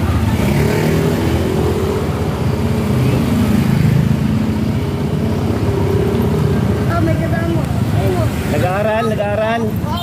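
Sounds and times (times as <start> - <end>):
motorcycle engine rumbling: 0.0 - 10.0.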